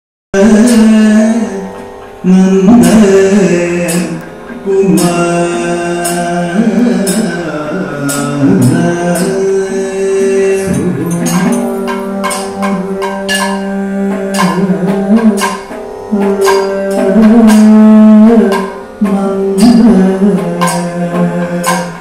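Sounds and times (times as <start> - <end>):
man singing: 0.3 - 22.0
drum strokes: 0.4 - 22.0
struck percussion: 0.4 - 22.0.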